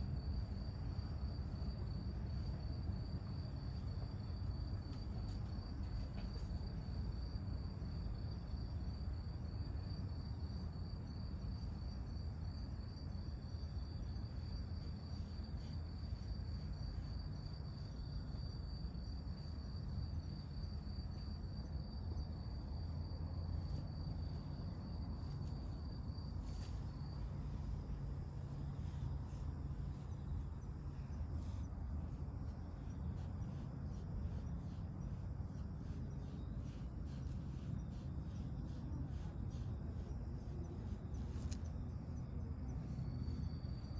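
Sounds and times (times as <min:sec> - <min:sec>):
cricket trilling: 0:00.0 - 0:43.9
steady low rumble: 0:00.0 - 0:43.9.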